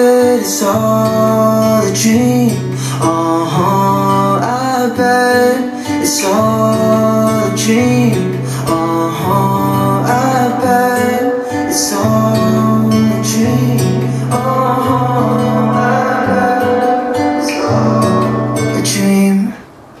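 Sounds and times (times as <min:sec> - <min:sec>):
guitar pop song over speakers: 0:00.0 - 0:20.0.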